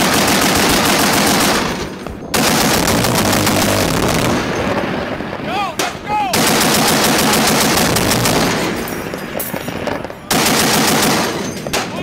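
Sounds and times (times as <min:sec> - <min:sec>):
machine gun firing bursts: 0:00.0 - 0:05.0, 0:06.3 - 0:11.9.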